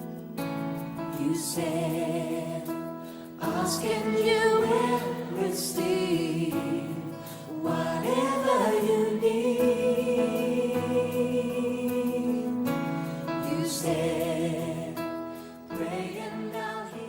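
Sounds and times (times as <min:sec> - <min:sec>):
instrumental backing: 0:00.0 - 0:17.0
gospel choir singing: 0:01.0 - 0:17.0.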